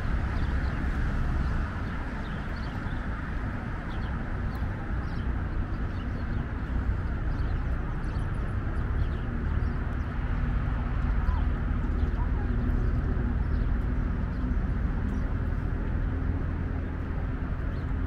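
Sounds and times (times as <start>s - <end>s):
city traffic rumble: 0.0s - 18.0s
small birds chirping: 0.0s - 18.0s.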